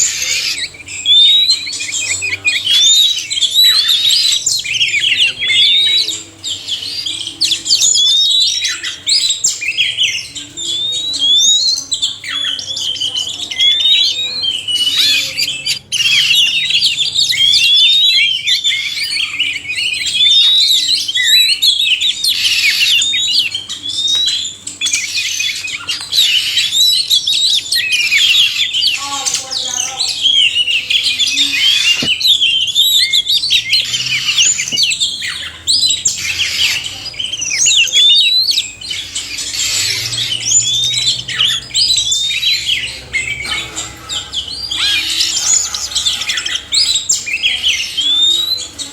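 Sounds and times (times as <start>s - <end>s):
birds singing whistles and trills: 0.0s - 48.9s.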